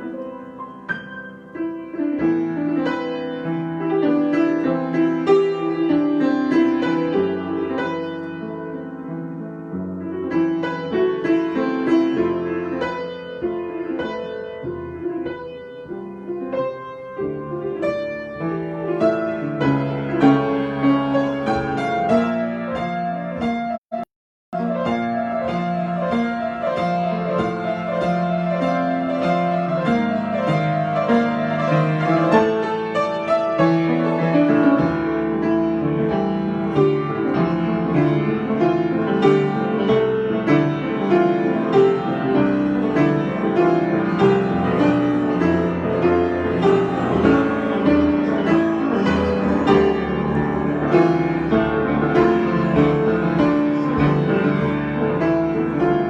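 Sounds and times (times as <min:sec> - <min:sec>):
piano improvisation: 0:00.0 - 0:56.0.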